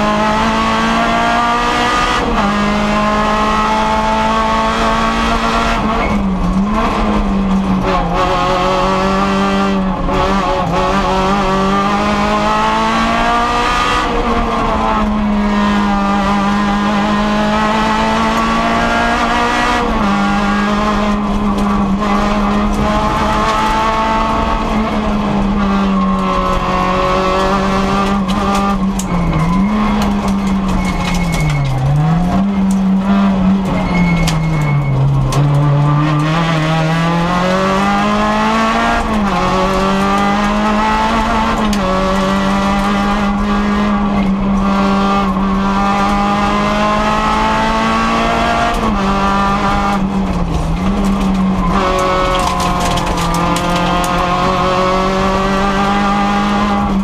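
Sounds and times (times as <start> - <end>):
rally car engine at high revs: 0.0 - 57.0.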